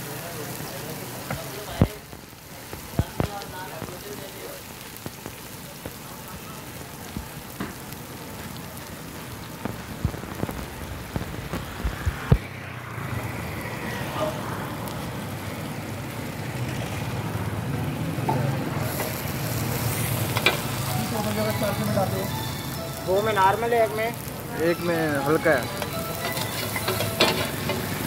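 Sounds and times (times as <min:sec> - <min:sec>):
oil sizzling on a griddle: 0:00.0 - 0:28.0.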